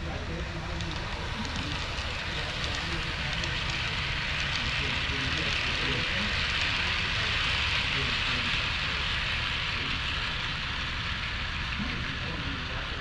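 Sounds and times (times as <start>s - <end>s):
faint voices: 0.0s - 10.9s, 11.7s - 13.0s
model train wheels rolling: 0.0s - 13.0s.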